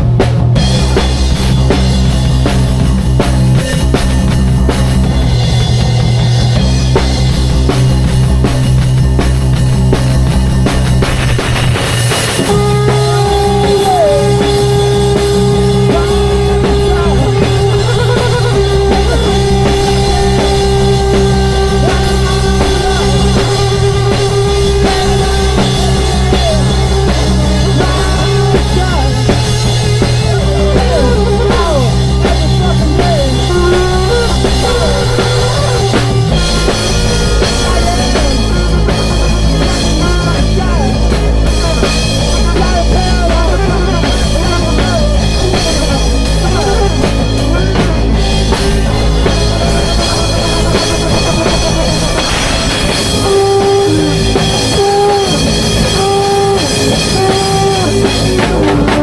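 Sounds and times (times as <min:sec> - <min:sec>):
drum kit: 0:00.0 - 0:59.0
live rock band improvising: 0:00.0 - 0:59.0.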